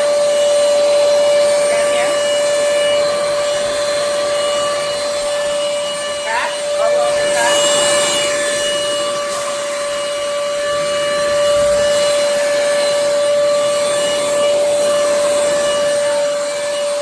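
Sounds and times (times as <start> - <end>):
stick vacuum running: 0.0 - 17.0.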